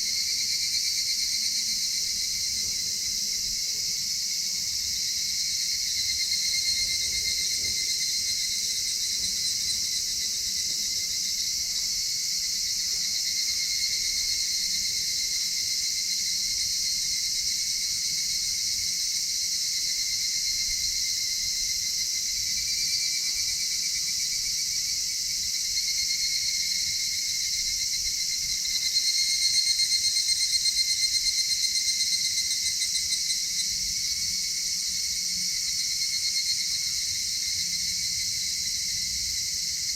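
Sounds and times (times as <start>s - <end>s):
crickets and insects trilling: 0.0s - 39.9s
pulsing insect trill: 0.0s - 39.9s.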